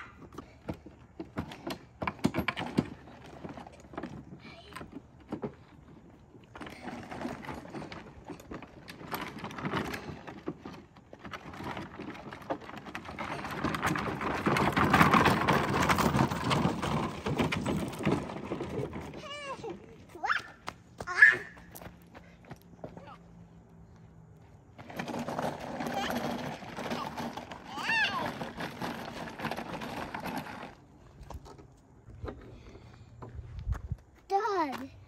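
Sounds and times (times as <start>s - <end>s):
plastic wheels rattling on gravel: 0.0s - 22.0s, 24.7s - 32.9s.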